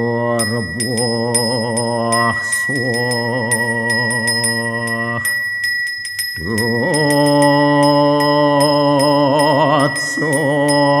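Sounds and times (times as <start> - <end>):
man chanting: 0.0 - 5.5, 6.4 - 11.0
handbell ringing: 0.0 - 11.0.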